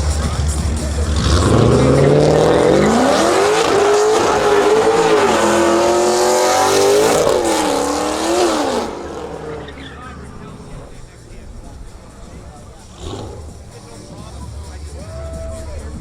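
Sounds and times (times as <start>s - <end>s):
car engine revving hard: 0.0s - 15.0s
tyres spinning and squealing: 0.0s - 16.0s.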